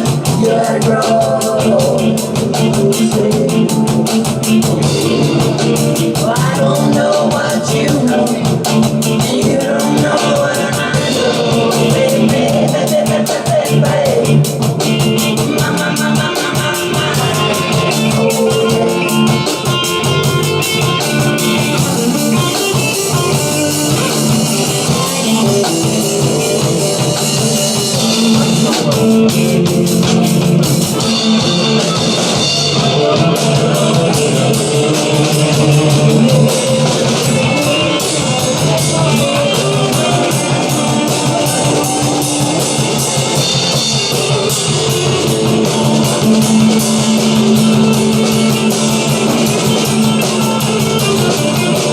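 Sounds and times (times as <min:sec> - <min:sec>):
rock music with drums and guitar: 0:00.0 - 0:51.9.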